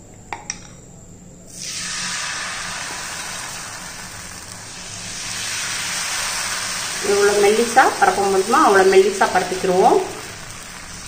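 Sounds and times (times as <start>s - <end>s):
batter sizzling on hot pan: 1.5s - 11.0s.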